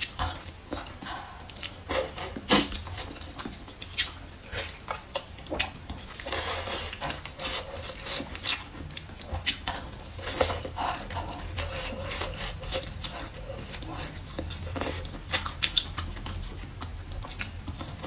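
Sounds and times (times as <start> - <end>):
chewing chicken: 0.0 - 18.0.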